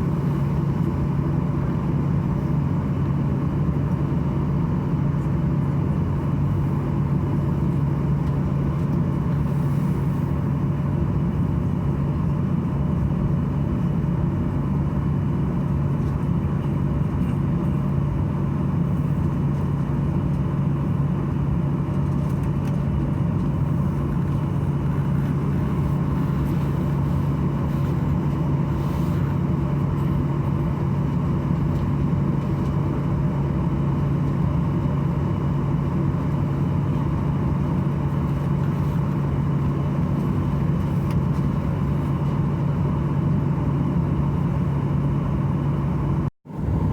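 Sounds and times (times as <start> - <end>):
airplane cabin droning hum: 0.0 - 46.9.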